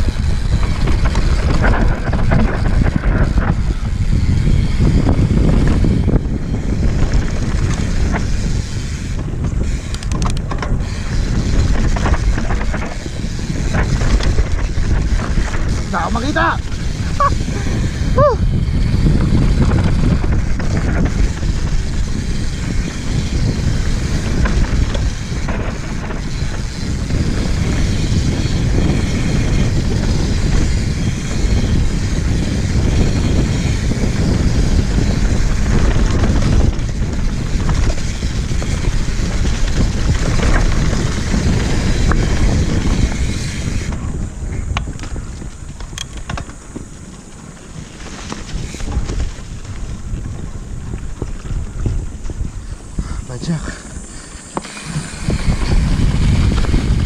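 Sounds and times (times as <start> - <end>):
bike clicks and knocks: 0.0 - 53.1, 53.7 - 57.0
tyres rolling over dirt: 0.0 - 57.0
wind buffeting camera: 0.0 - 57.0.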